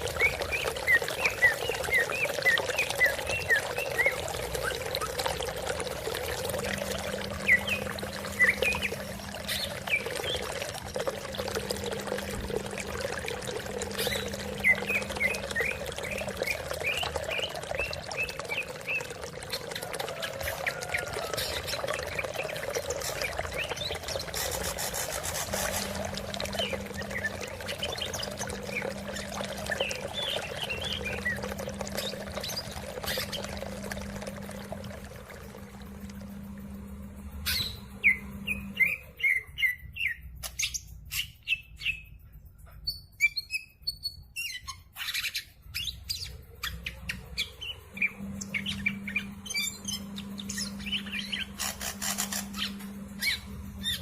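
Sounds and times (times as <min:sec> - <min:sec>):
running water: 0:00.0 - 0:39.4, 0:45.8 - 0:54.0.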